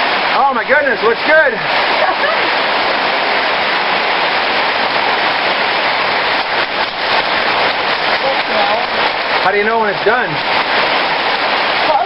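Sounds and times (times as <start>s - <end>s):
hard rain falling: 0.0s - 12.0s.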